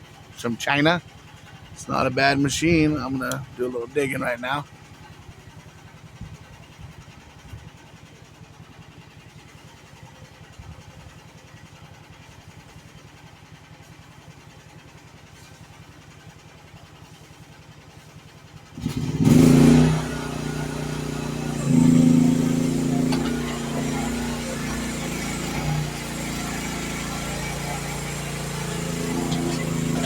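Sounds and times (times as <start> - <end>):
small excavator engine idling and revving: 0.0 - 30.0.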